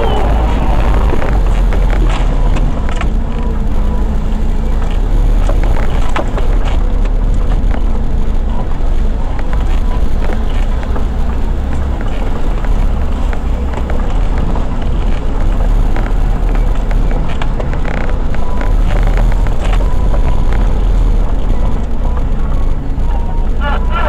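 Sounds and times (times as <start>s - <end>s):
knocks and rattles over bumps: 0.0s - 24.0s
vehicle engine and road rumble: 0.0s - 24.0s.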